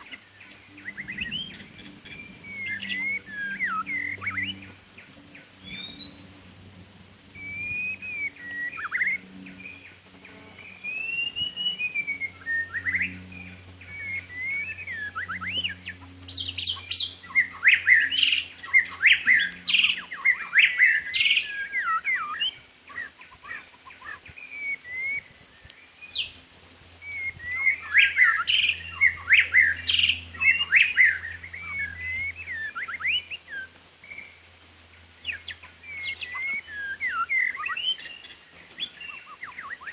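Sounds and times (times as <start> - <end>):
bird singing whistled notes: 0.0 - 6.6, 7.3 - 34.5, 35.2 - 39.9.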